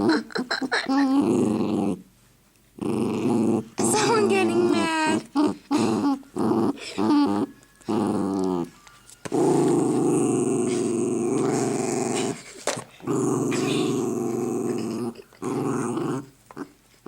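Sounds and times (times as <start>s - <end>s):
dog growling: 0.0s - 2.1s, 2.8s - 16.8s.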